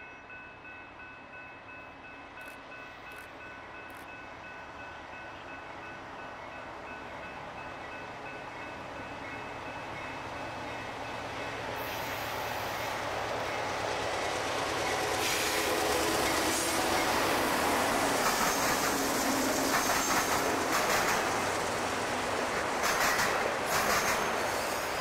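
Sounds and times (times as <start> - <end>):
train passing: 0.0 - 25.0
wheels rushing on rail: 2.2 - 25.0.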